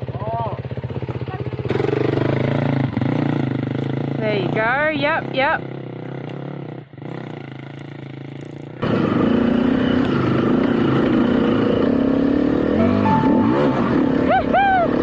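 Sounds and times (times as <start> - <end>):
motorcycle engine revving: 0.1 - 15.0.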